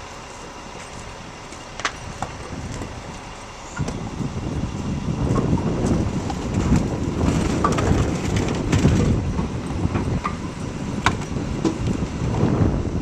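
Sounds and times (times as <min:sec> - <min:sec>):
wind rumbling on microphone: 0:00.6 - 0:13.0.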